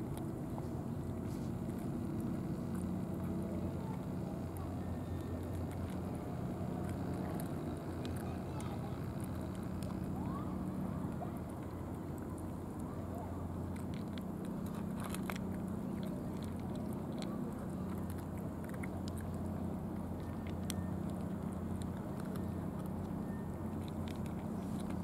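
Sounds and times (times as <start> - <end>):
cats chewing and licking food: 0.0 - 25.0
low background rumble: 0.0 - 25.0.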